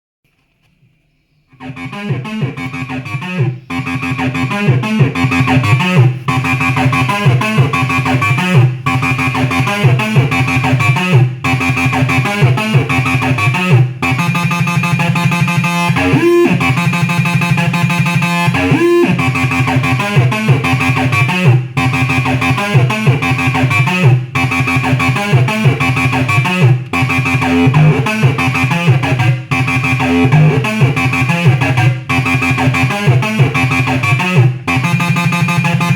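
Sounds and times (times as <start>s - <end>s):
acid bass synthesizer line: 1.5s - 35.9s.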